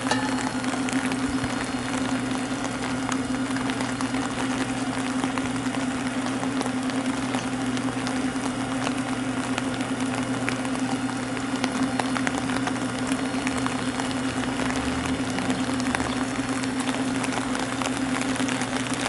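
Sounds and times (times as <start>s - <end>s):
constant low hum: 0.0s - 19.0s
small drips ticking: 0.0s - 19.0s
steady rain falling: 0.0s - 19.0s.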